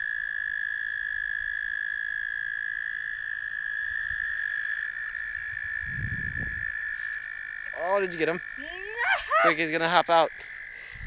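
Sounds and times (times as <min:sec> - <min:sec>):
frogs calling in high trill: 0:00.0 - 0:11.0.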